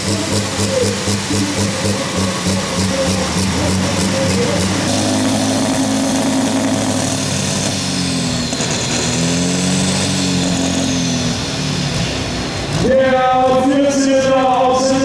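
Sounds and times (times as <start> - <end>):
tractor engine revving hard: 0.0 - 13.6.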